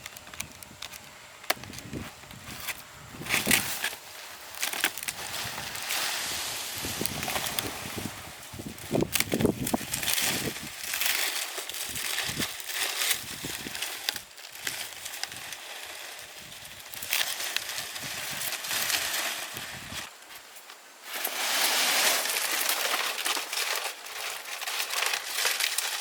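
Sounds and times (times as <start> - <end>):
rustling and crackling: 0.0 - 26.0.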